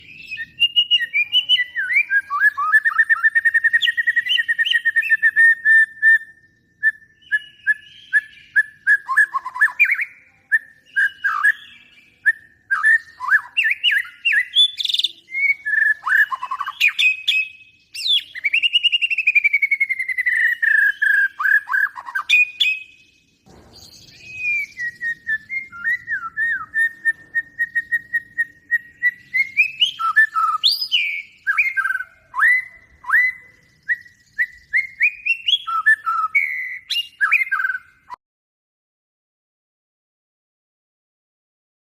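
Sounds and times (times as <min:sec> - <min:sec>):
songbird singing: 0:00.0 - 0:38.2.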